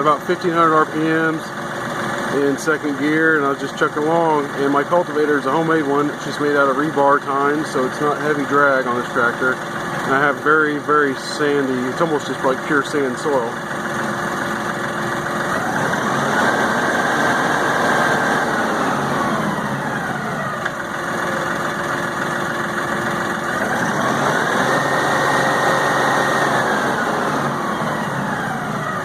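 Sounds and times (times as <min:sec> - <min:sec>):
tractor diesel engine revving: 0:00.0 - 0:29.0.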